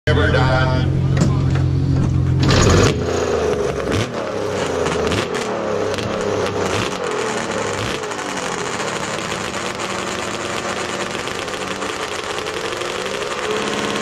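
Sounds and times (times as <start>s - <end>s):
snowmobile engine revving: 1.7s - 14.0s.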